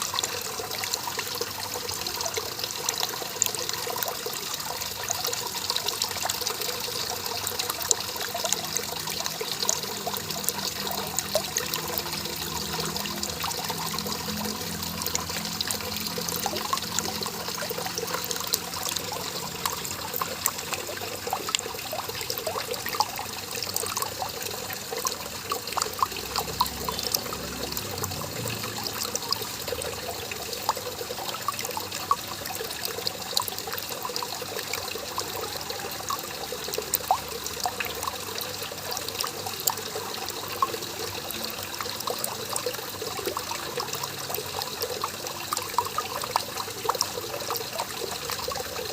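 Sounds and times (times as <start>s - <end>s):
small waterfall trickling and splashing: 0.0s - 48.9s.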